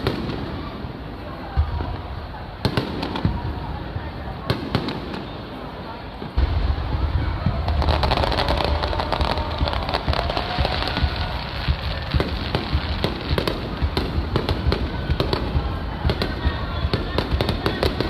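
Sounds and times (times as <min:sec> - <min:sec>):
fireworks booming: 0:00.0 - 0:18.0
fireworks crackling: 0:00.0 - 0:18.0.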